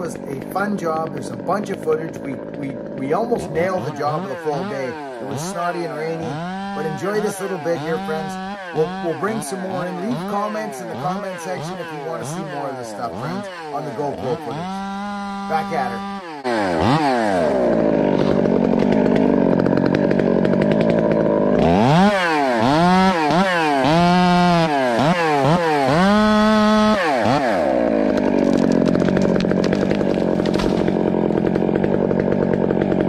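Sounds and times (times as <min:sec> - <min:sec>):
chainsaw cutting wood: 0:00.0 - 0:33.0.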